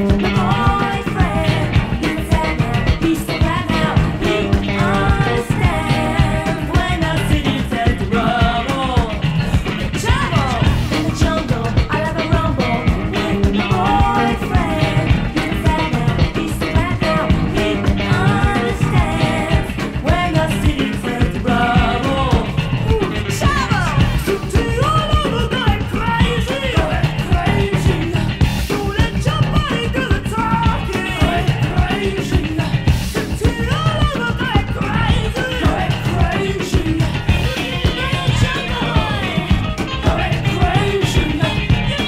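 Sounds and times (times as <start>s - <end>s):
song with singing voice and band: 0.0s - 42.0s.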